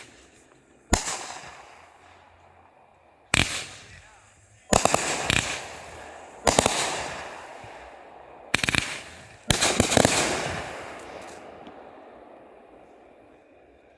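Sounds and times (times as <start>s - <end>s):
fireworks rapid cracks: 0.0s - 2.5s, 3.3s - 13.4s
fireworks crackling hiss: 0.0s - 11.8s.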